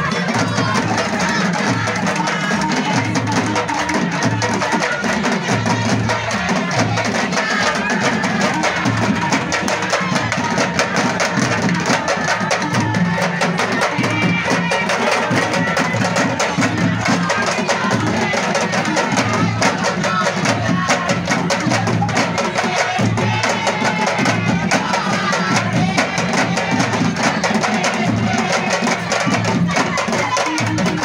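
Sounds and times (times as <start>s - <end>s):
fast dense drumming: 0.0s - 31.0s.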